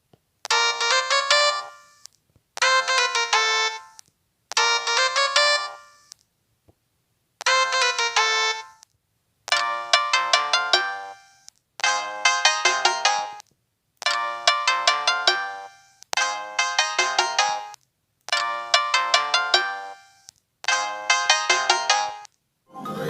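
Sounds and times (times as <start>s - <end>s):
electronic phone ringtone: 0.5s - 4.0s, 4.6s - 6.1s, 7.4s - 8.8s, 9.5s - 13.4s, 14.1s - 17.8s, 18.4s - 23.0s.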